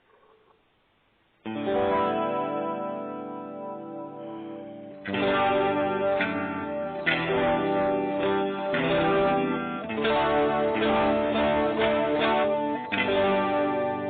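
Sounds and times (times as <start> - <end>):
electric guitar chords strummed: 1.4 - 14.0.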